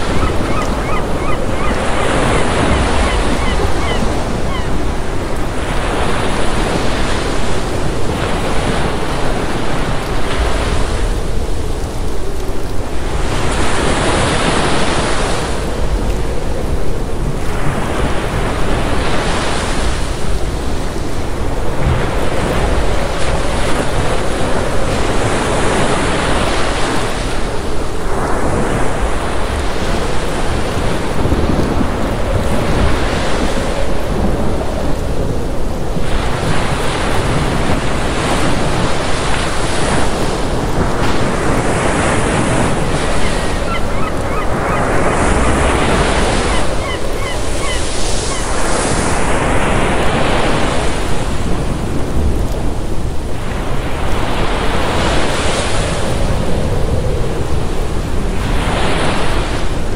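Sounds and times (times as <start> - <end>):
ocean surf breaking on seawall: 0.0 - 12.0, 16.6 - 59.9.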